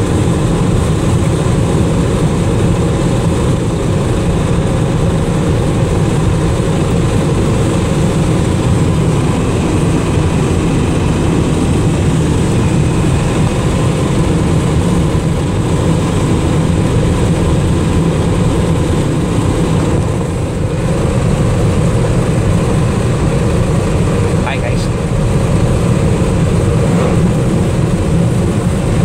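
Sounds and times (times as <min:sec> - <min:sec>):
pickup truck engine drone: 0:00.0 - 0:29.0
wind noise: 0:00.0 - 0:29.0.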